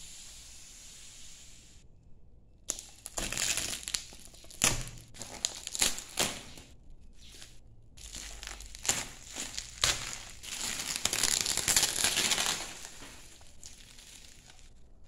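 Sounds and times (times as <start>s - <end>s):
bubble wrap crinkling: 2.7s - 15.0s.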